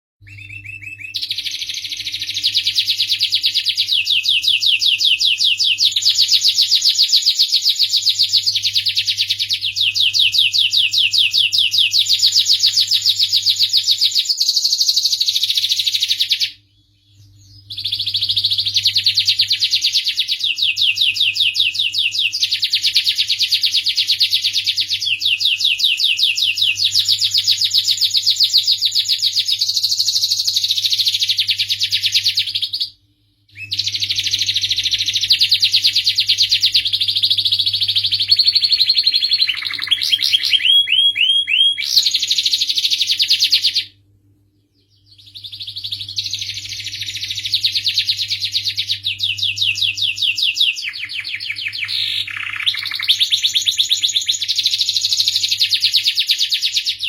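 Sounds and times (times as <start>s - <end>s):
canary singing rolling trills: 0.2s - 57.0s.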